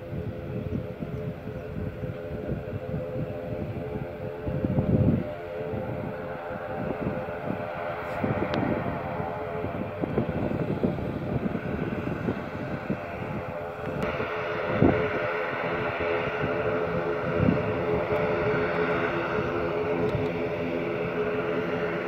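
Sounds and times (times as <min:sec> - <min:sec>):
turboprop engines droning: 0:00.0 - 0:22.0
wind noise on microphone: 0:00.0 - 0:22.0.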